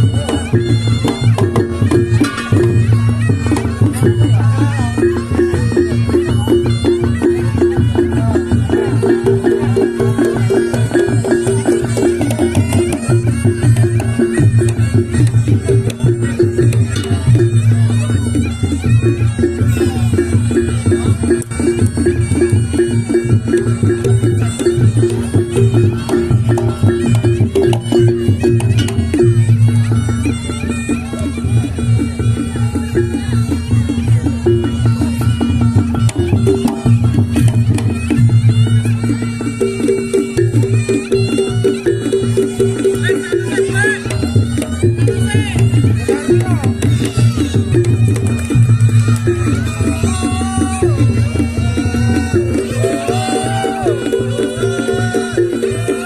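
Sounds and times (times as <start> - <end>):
reedy wind instrument melody: 0.0 - 56.0
struck percussion beat: 0.0 - 56.0.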